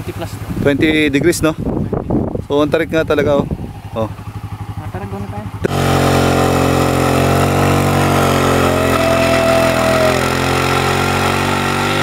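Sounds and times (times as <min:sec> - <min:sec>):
three-wheeler engine climbing: 0:00.0 - 0:12.0.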